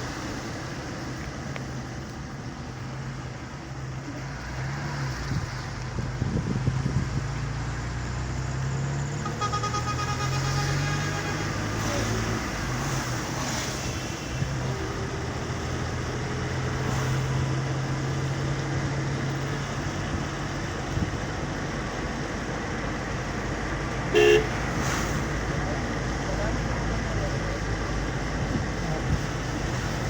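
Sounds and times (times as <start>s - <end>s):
road noise: 0.0s - 30.0s
vehicle engine drone: 0.0s - 30.0s.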